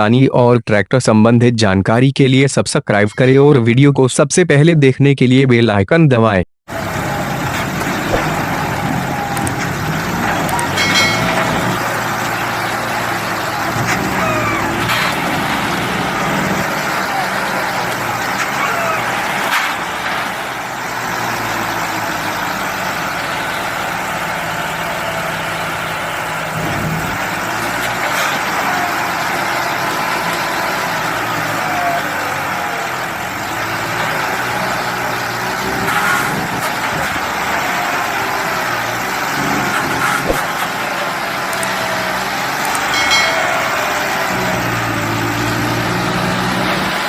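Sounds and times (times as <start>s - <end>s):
tractor diesel engines under load: 2.0s - 4.7s, 6.7s - 47.0s.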